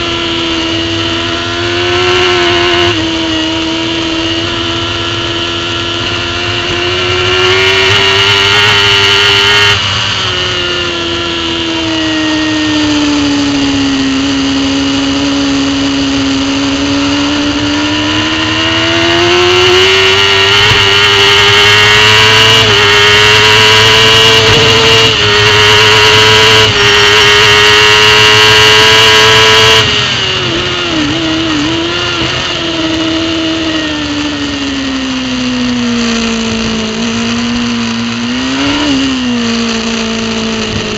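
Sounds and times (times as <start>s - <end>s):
motorbike engine at high revs: 0.0s - 40.9s.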